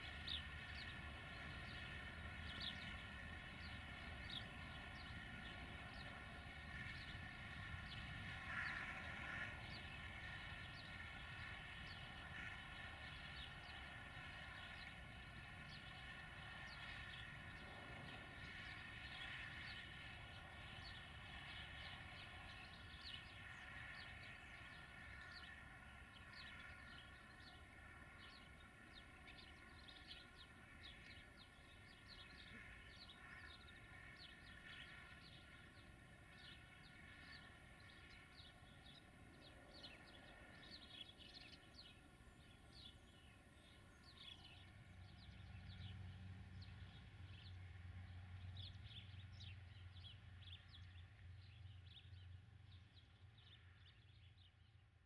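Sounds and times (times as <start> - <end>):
small birds chirping: 0.0 - 47.6.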